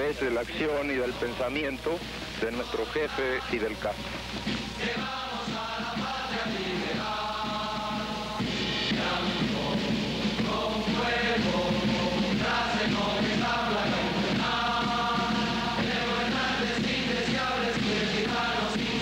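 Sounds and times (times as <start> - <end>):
chorus chanting melody: 0.0 - 19.0.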